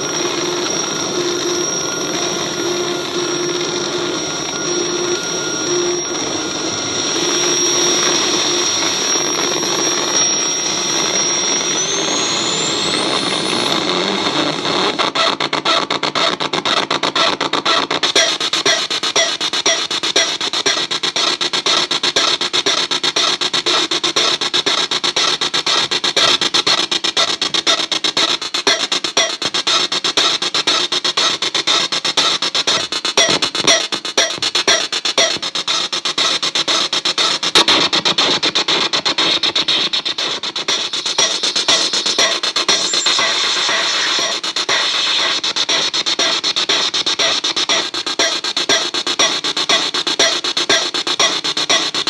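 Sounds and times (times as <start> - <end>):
glitchy drum machine clicks and buzzing: 0.0 - 52.0.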